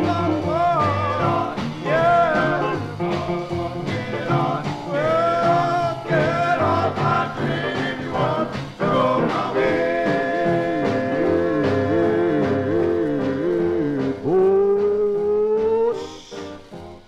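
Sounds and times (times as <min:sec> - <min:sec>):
vocal group singing with band: 0:00.0 - 0:14.6.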